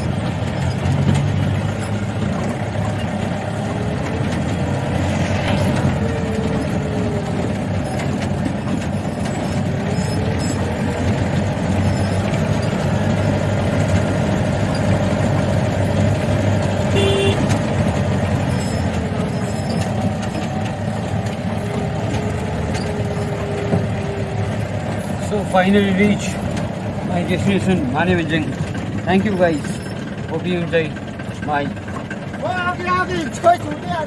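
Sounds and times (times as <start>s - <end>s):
car engine running: 0.0s - 34.0s
road noise: 0.0s - 34.0s.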